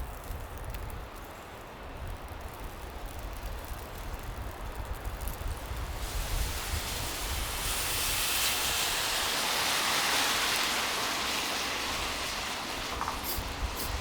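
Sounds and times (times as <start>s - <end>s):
tyre hiss on wet street: 0.0s - 14.0s.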